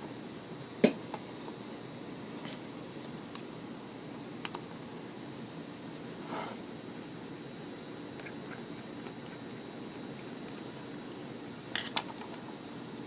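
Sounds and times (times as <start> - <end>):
steady fan-like hiss: 0.0 - 13.0.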